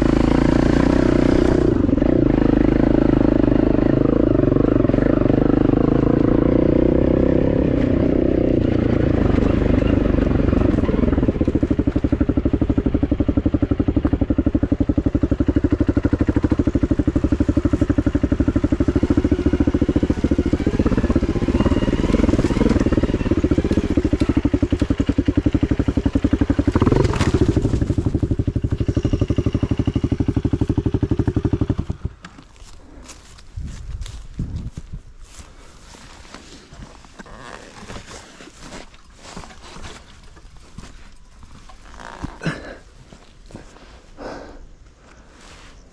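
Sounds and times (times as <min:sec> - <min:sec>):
dirt bike engine idling: 0:00.0 - 0:33.4, 0:38.6 - 0:45.3.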